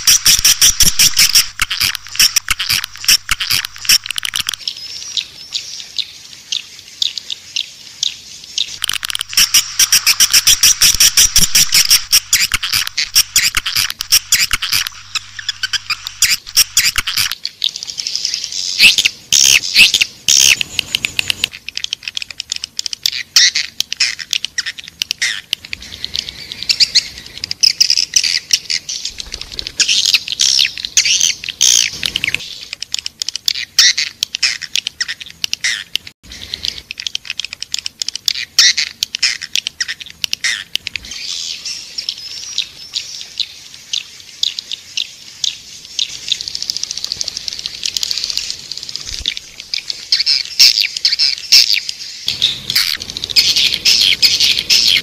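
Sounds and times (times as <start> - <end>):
swiftlets chirping and clicking: 0.0 - 4.7, 8.7 - 17.5, 18.8 - 41.3, 45.4 - 55.0.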